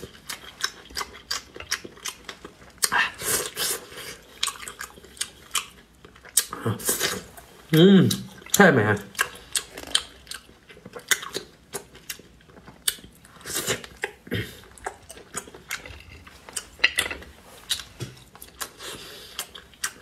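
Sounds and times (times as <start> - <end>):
wet chewing and mouth smacks: 0.0 - 7.5, 8.1 - 20.0.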